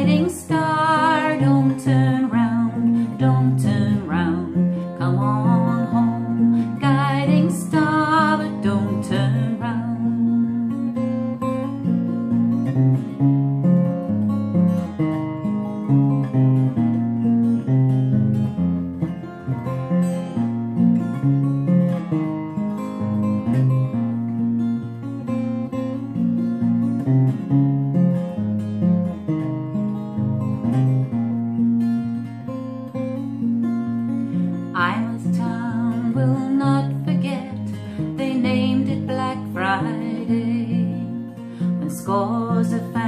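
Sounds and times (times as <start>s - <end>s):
acoustic guitar: 0.0s - 43.0s.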